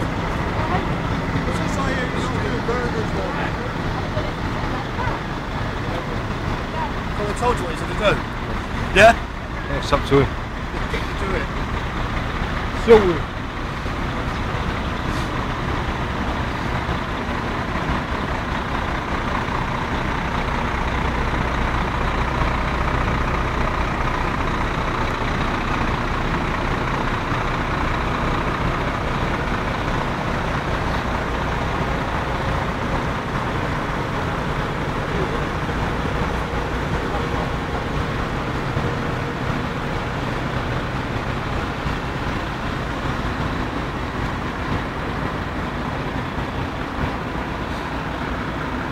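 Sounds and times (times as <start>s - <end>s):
diesel lorry engines rumbling: 0.0s - 48.9s.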